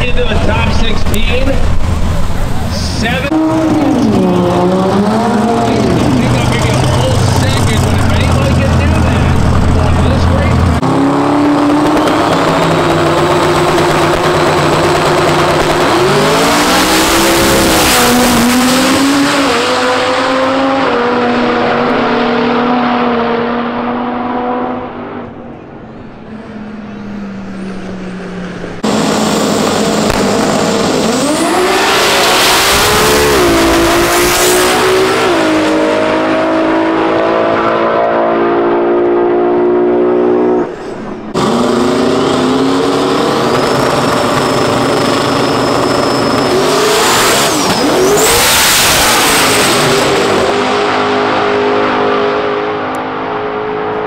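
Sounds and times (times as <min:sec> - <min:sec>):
drag race cars at full throttle: 0:00.0 - 0:54.0.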